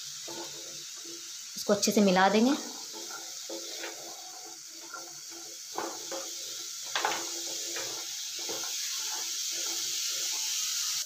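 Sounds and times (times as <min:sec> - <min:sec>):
frying sizzle: 0:00.0 - 0:11.0
spatula scraping a pan: 0:00.0 - 0:11.0.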